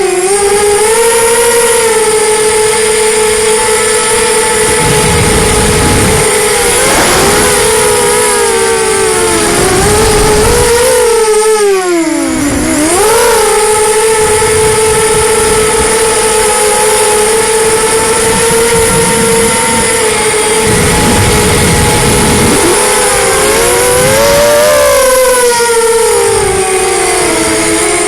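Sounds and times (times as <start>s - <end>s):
quadcopter motors whining: 0.0s - 28.0s
wind buffeting microphone: 0.5s - 28.0s.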